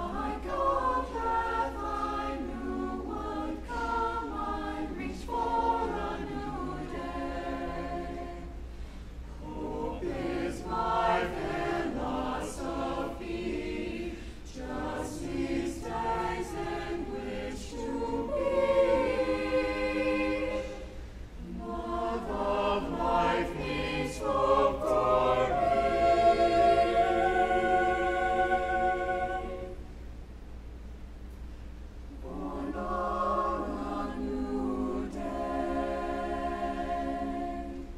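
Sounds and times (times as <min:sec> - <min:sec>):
choir singing a cappella: 0:00.0 - 0:30.1, 0:32.1 - 0:37.9.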